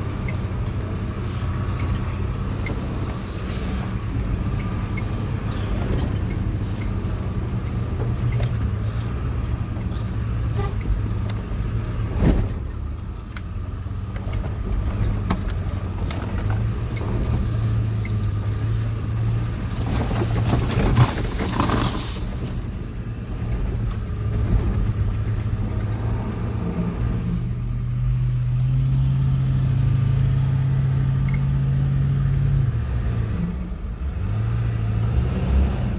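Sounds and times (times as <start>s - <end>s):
vehicle engine running under load: 0.0s - 35.9s.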